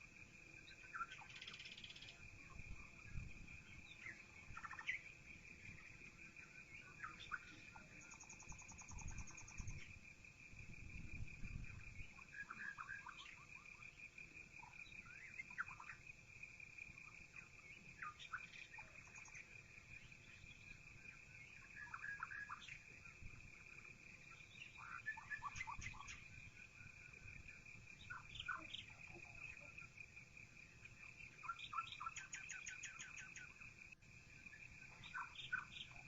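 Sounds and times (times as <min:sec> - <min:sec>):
faint birds chirping: 0:00.0 - 0:36.0.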